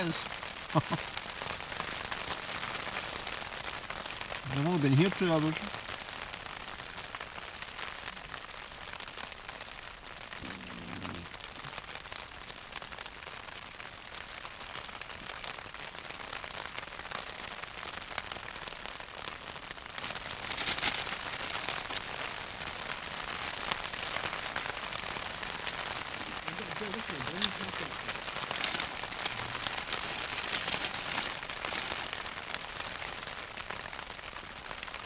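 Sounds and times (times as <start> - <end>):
rain pattering on tent fabric: 0.0 - 35.0
rustle: 0.0 - 35.0.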